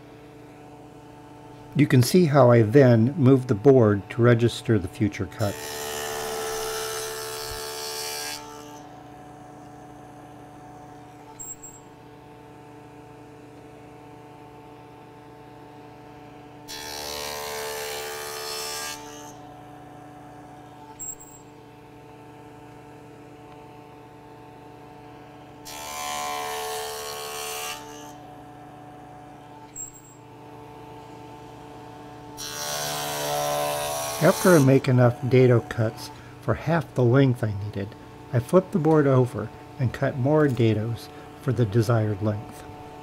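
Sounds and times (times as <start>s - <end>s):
table saw cutting wood: 0.1s - 43.0s.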